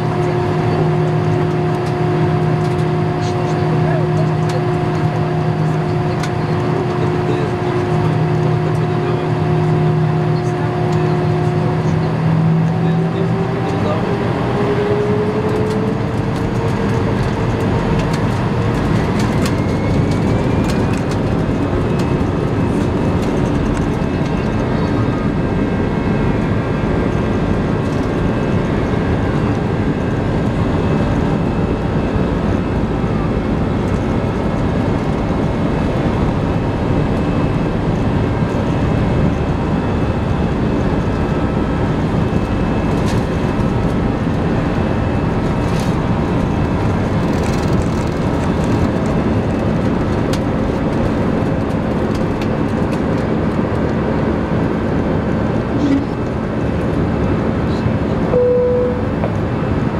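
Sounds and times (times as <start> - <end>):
wheel rumble: 0.0 - 59.9.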